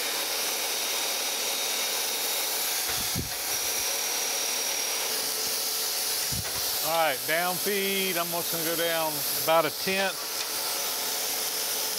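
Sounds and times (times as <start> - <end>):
grinding wheel hissing on metal: 0.0 - 11.9.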